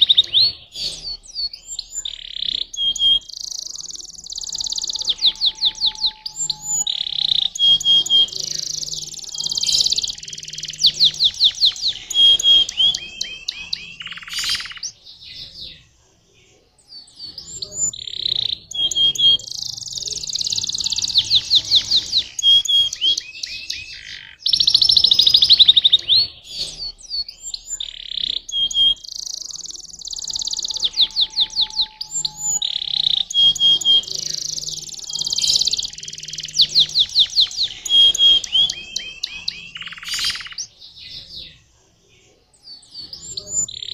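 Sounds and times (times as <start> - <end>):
canary singing trills and chirps: 0.0 - 43.9.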